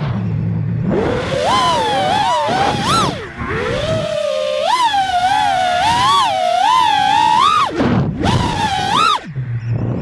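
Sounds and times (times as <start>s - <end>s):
quadcopter motors whining: 0.9s - 9.3s.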